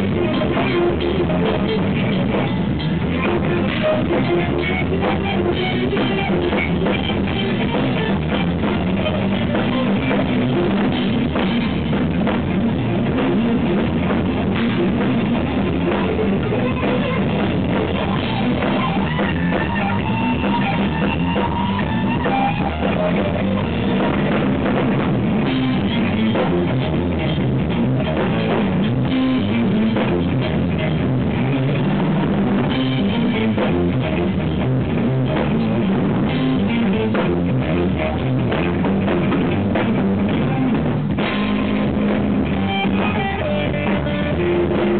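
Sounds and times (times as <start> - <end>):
bass guitar: 0.0 - 44.9
drum kit: 0.0 - 44.9
electric guitar lead: 0.0 - 44.9.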